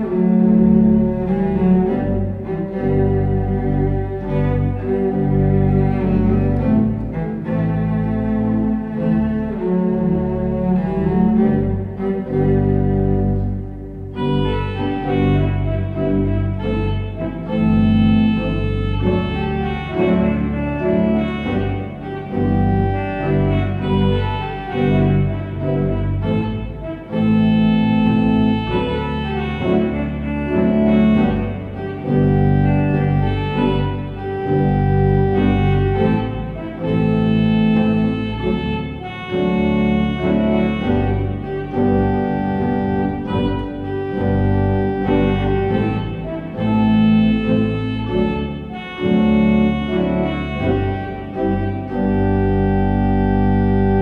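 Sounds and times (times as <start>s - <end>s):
bowed cello playing: 0.0s - 54.0s
organ chords: 0.0s - 54.0s.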